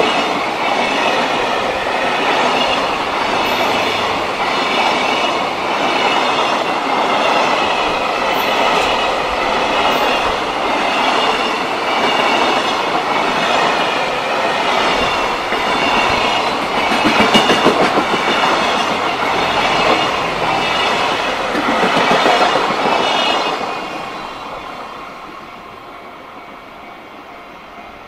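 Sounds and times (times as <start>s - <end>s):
train wagons rolling past: 0.0s - 28.0s.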